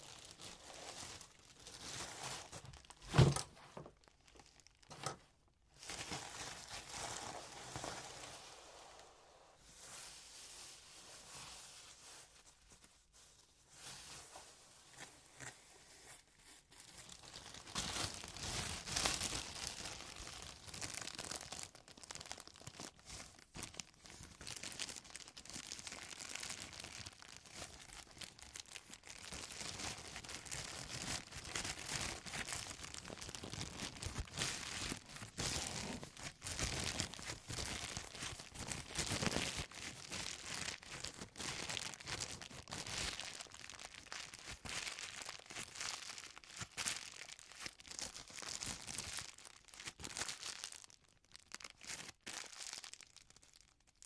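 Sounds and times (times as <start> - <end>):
packaging crinkling and rustling: 0.0 - 9.0, 9.8 - 54.0.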